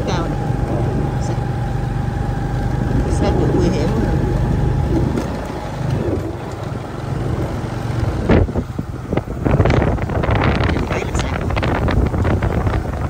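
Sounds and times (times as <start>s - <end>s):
motorbike engine hum: 0.0s - 13.0s
wind buffeting microphone: 0.0s - 13.0s.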